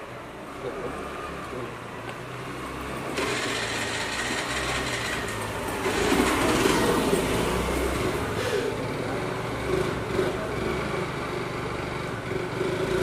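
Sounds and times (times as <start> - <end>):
traffic engine hum: 0.0 - 13.0
vehicles rushing past: 0.0 - 13.0.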